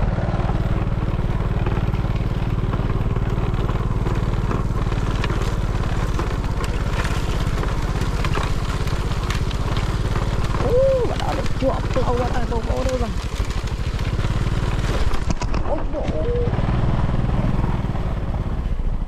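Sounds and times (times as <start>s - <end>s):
motorbike engine running: 0.0s - 19.0s.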